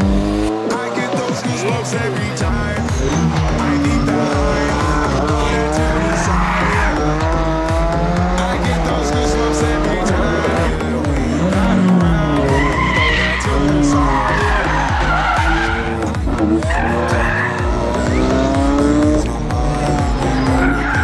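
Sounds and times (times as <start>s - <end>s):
rally car engine revving: 0.0s - 21.0s
steady music beat: 0.0s - 21.0s
tyres squealing: 0.7s - 21.0s.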